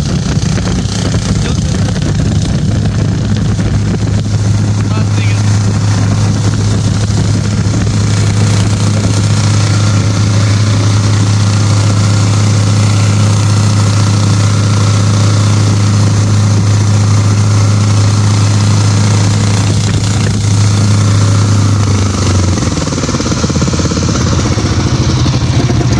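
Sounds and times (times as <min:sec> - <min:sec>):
small petrol engine running: 0:00.0 - 0:25.9.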